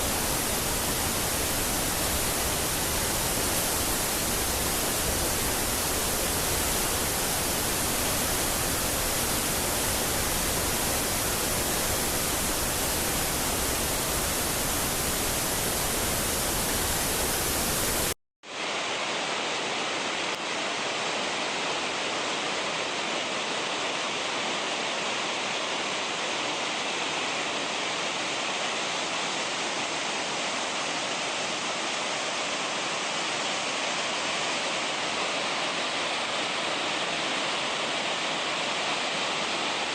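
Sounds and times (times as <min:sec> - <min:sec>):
rushing stream water: 0:00.0 - 0:19.2, 0:20.1 - 0:39.9.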